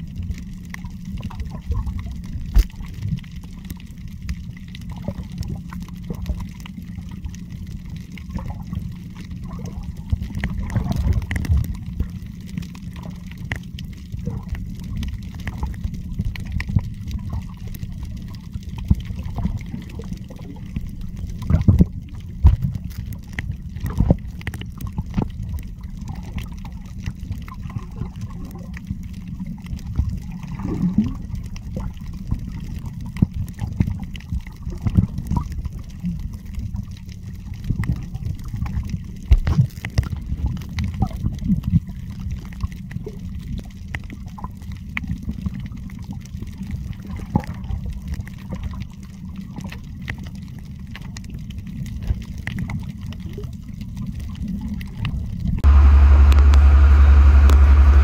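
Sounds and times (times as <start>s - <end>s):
underwater clicks and crackles: 0.0s - 58.0s
underwater rumble of moving water: 0.0s - 58.0s.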